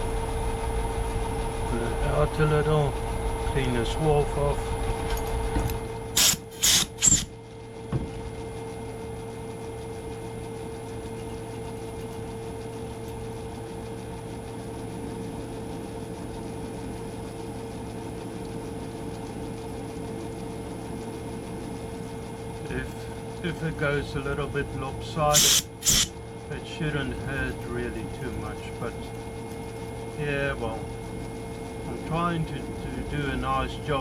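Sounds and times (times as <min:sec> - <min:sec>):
lathe running hum: 0:00.0 - 0:07.9, 0:08.5 - 0:34.0.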